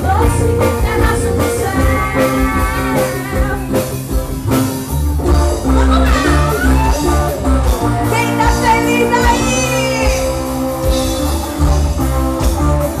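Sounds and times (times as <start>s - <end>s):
live band music over loudspeakers: 0.0s - 13.0s.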